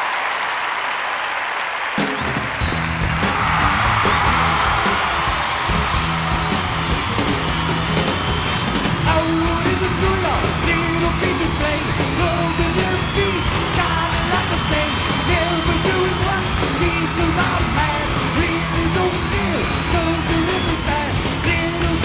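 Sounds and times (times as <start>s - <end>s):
heavy metal band playing live: 2.0s - 22.0s.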